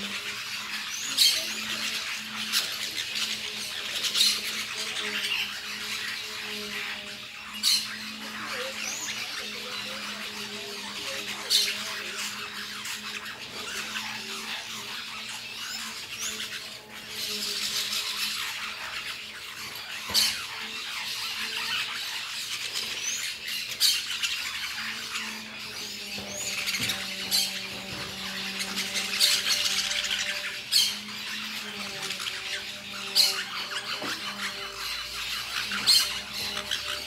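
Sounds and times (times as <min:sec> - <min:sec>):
parakeets squawking and screeching: 0:00.0 - 0:37.0.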